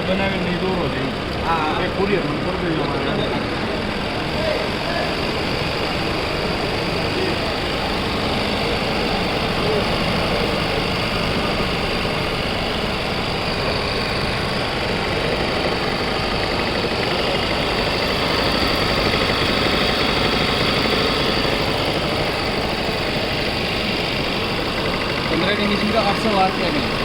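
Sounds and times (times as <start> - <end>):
sewing machine running: 0.0 - 27.0.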